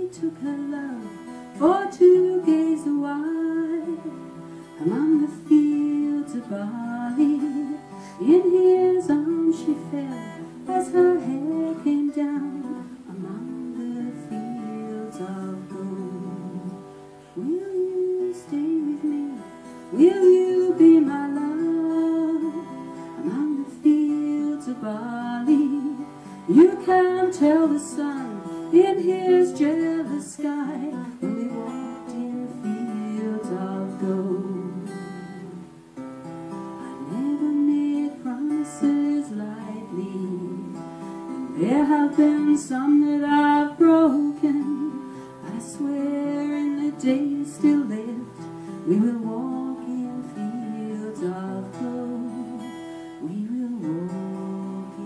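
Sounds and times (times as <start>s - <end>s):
acoustic guitar: 0.0s - 55.0s
woman singing: 0.0s - 55.0s.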